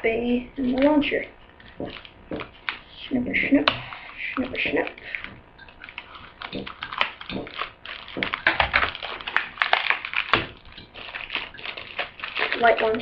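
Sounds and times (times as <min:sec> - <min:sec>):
plastic packaging crackling: 0:00.0 - 0:13.0.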